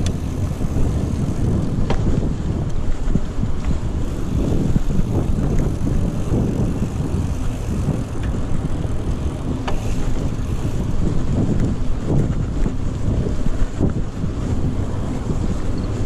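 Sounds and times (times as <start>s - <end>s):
bike clicks and rattles: 0.0s - 16.0s
tyres rumbling on dirt: 0.0s - 16.0s
wind buffeting microphone: 0.0s - 16.0s.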